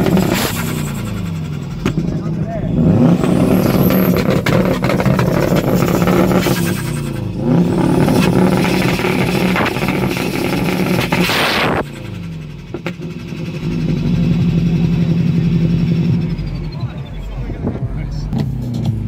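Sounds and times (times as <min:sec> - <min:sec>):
car engine revving loudly: 0:00.0 - 0:19.0.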